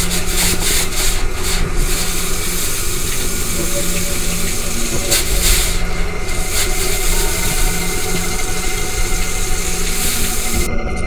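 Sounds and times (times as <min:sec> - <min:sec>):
shower spraying water: 0:00.0 - 0:10.7
low steady hum: 0:00.0 - 0:11.0.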